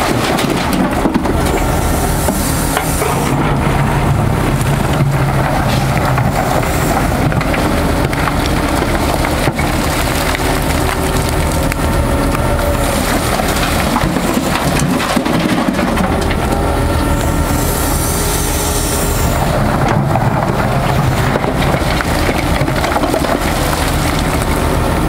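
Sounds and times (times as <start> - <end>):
diesel engine running: 0.0 - 25.0
excavator bucket scraping rock: 0.0 - 25.0.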